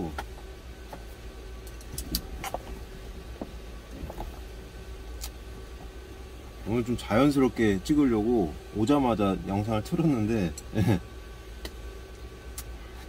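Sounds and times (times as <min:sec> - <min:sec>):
low hum in truck cab: 0:00.0 - 0:13.0.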